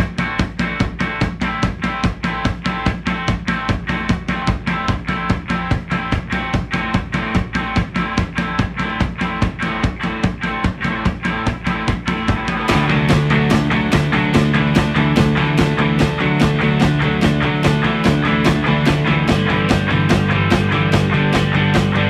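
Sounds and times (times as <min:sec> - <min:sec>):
fast drum beat: 0:00.0 - 0:22.0.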